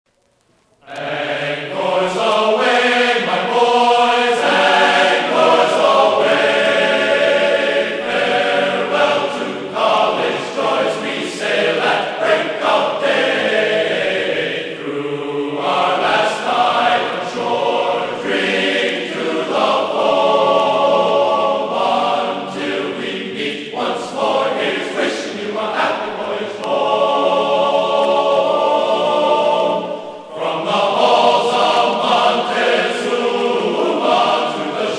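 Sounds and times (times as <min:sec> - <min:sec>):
choir singing sustained chords: 0:00.8 - 0:34.9.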